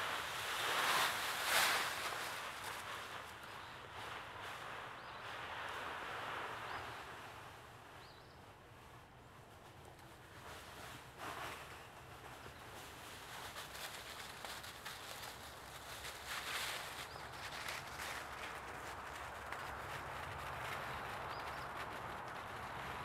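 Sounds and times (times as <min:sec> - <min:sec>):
dry leaves rustling and crackling: 0:00.0 - 0:07.6, 0:08.8 - 0:23.0
outdoor background noise: 0:00.0 - 0:23.0.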